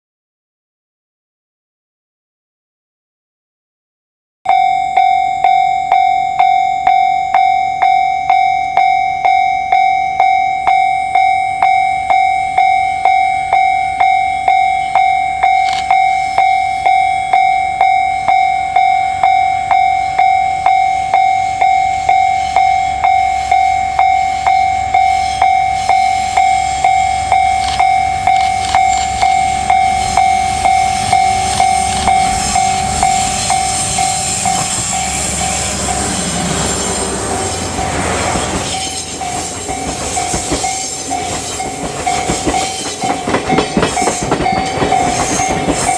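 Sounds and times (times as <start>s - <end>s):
approaching train: 4.5s - 45.9s
level-crossing alarm ringing: 4.5s - 45.9s.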